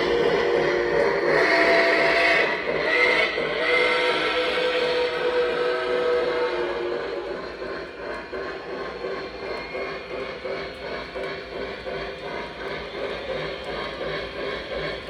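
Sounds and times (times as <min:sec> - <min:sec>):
model steam train chuffing: 0:00.0 - 0:15.0
motor and wheels humming: 0:00.0 - 0:15.0.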